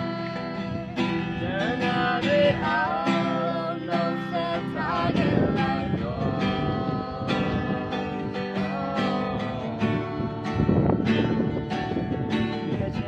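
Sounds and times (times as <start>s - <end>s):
acoustic guitar: 0.0s - 13.0s
person singing: 0.0s - 13.0s.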